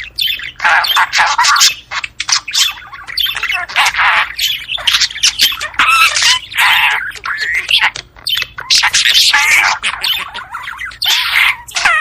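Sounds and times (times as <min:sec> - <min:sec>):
budgerigar squawks: 0:00.0 - 0:12.0
budgerigars chattering and warbling: 0:00.0 - 0:12.0.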